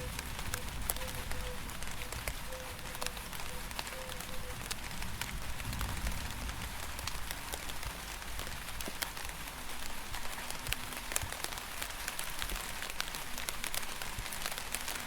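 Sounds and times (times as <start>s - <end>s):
raindrops ticking on a surface: 0.0s - 15.0s
steady rain hiss: 0.0s - 15.0s.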